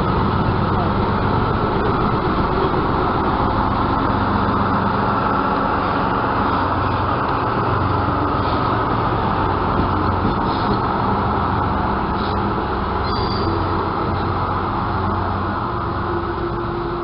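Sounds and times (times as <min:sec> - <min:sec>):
diesel engine drone: 0:00.0 - 0:17.0
train cars rolling on track: 0:00.0 - 0:17.0.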